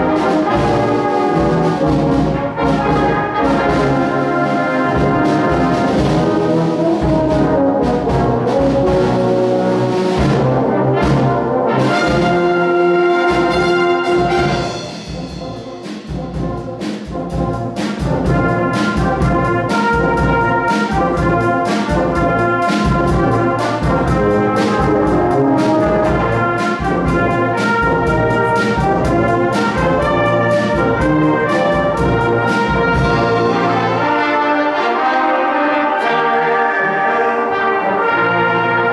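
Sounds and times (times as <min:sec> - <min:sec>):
brass band playing: 0:00.0 - 0:38.9
regular drum beats: 0:00.0 - 0:38.9.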